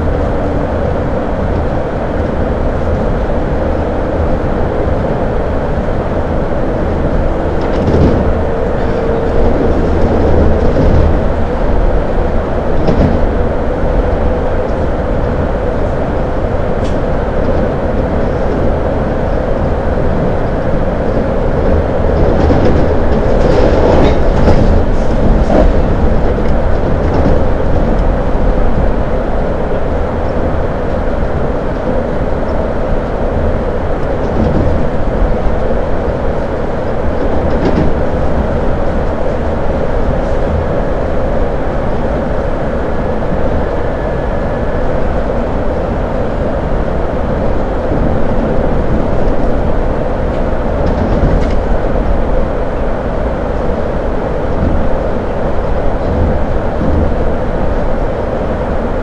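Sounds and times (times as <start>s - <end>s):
train wheels rumbling on rails: 0.0s - 59.0s
wheels clacking over rail joints: 4.8s - 42.6s, 43.2s - 59.0s.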